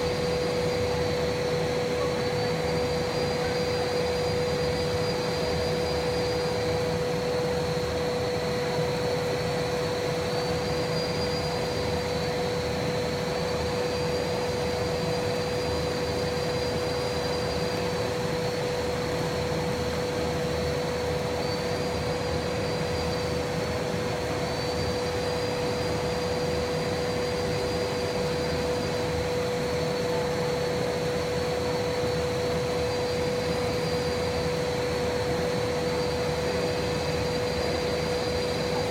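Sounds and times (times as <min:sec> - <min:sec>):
faint high whine: 0:00.0 - 0:38.9.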